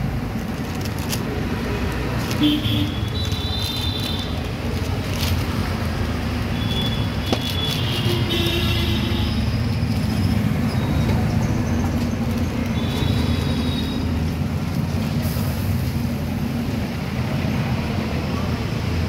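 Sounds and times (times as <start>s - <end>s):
vehicle rumbling: 0.0s - 19.0s.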